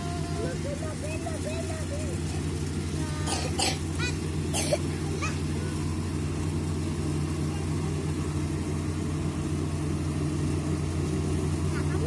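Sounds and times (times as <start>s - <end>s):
combine harvester diesel engine hum: 0.0s - 12.0s.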